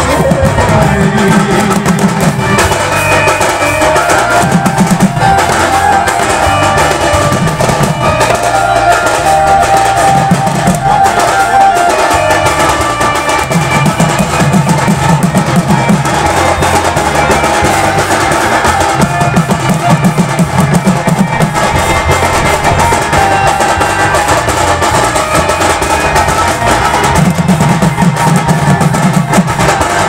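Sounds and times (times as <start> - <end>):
barrel drums beaten fast: 0.0 - 30.0
melody of held notes: 0.0 - 30.0.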